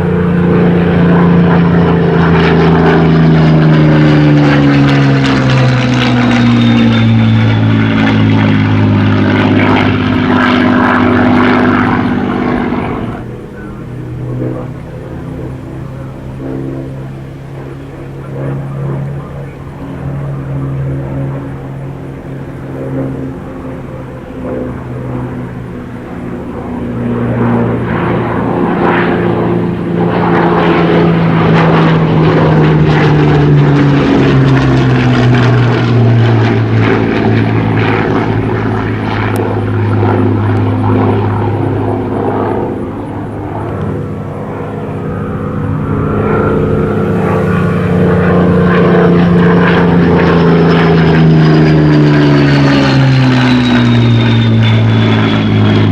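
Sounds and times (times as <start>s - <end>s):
propeller plane engine drone: 0.0s - 55.9s.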